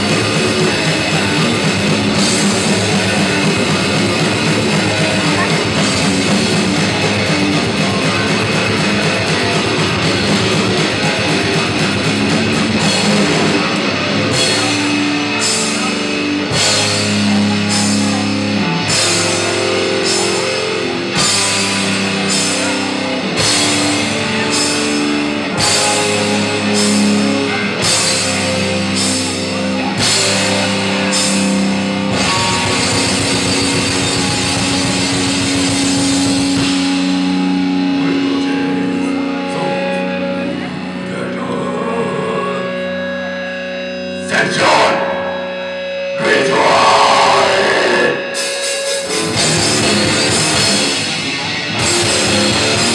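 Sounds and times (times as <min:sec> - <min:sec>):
death metal band playing live: 0:00.0 - 0:52.9.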